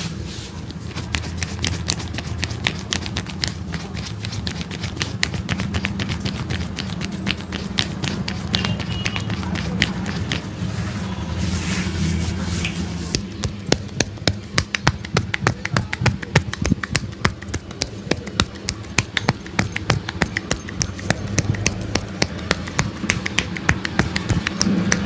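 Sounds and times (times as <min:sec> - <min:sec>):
hands tapping on a head: 0:01.0 - 0:10.5, 0:13.1 - 0:25.0.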